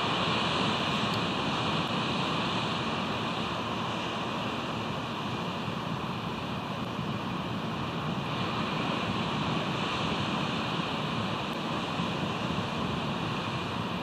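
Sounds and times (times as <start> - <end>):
ocean surf rushing: 0.0 - 14.0
wind: 0.0 - 14.0.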